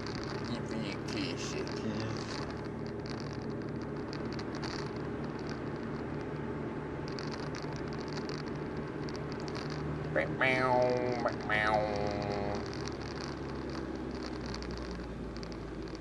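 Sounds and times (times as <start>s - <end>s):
exhaust leak rattling and puffing: 0.0s - 10.9s, 11.5s - 16.0s
car engine droning: 0.0s - 16.0s
road noise: 0.0s - 16.0s.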